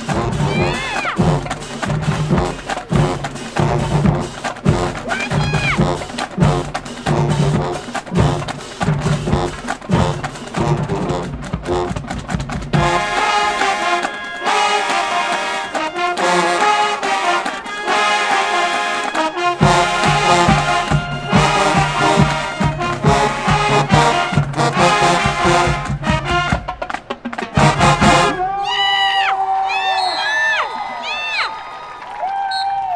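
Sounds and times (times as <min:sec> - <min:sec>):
brass section playing chords: 0:00.0 - 0:28.6
drumline hits: 0:00.0 - 0:29.1.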